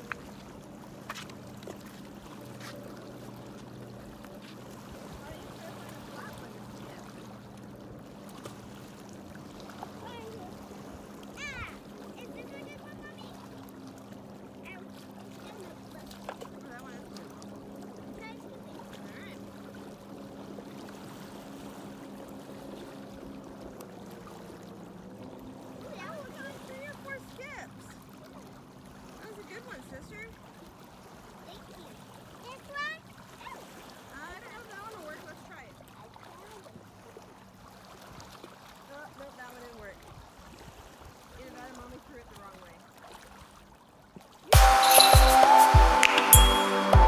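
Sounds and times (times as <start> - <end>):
waves lapping on rocky shore: 0.0 - 47.0.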